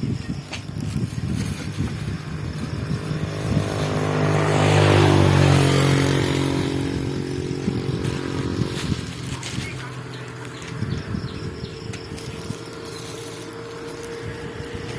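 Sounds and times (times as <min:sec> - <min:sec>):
motor vehicle passing by: 0:00.8 - 0:14.9.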